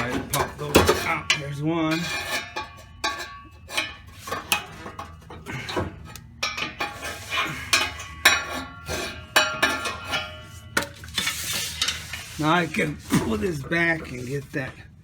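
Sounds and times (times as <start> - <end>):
pry bar clanking on metal: 0.0 - 12.2.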